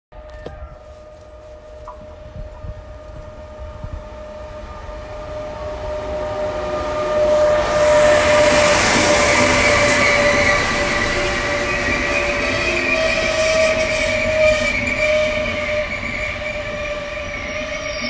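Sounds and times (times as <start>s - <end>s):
electric train passing: 0.9s - 18.0s.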